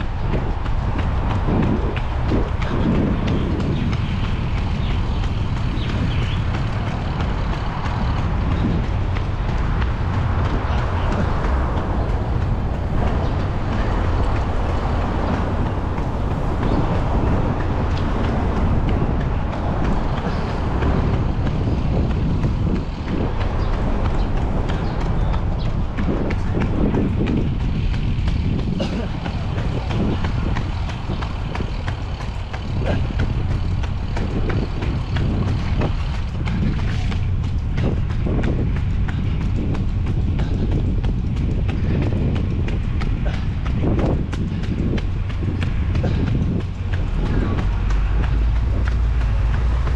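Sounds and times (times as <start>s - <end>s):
faint footfalls: 0.0s - 49.9s
wind buffeting microphone: 0.0s - 49.9s.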